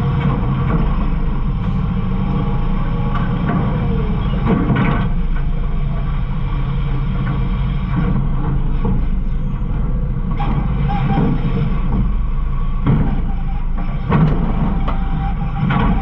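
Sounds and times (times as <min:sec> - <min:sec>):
garbage truck engine rumble: 0:00.0 - 0:16.0.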